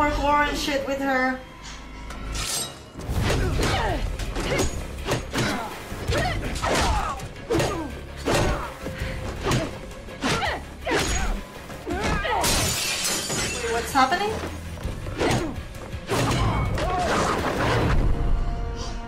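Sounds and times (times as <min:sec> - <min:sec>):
soundtrack music: 0:00.0 - 0:12.8, 0:13.4 - 0:19.0.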